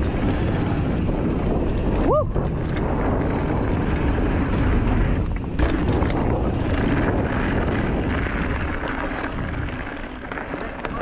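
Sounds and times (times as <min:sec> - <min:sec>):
bike knocking and rattling: 0:00.0 - 0:11.0
bike tyre noise: 0:00.0 - 0:11.0
wind rushing over microphone: 0:00.0 - 0:11.0.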